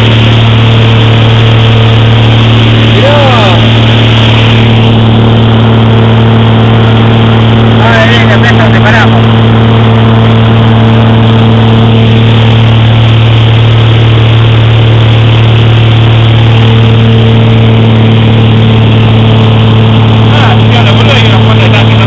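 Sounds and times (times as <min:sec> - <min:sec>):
airplane engine humming in cabin: 0:00.0 - 0:22.0.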